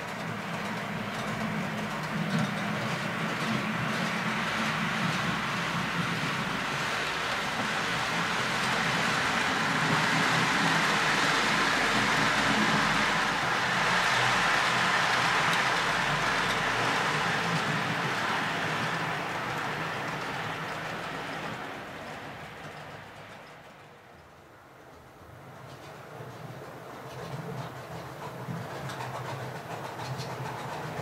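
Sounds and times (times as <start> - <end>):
model train rolling on track: 0.0 - 31.0.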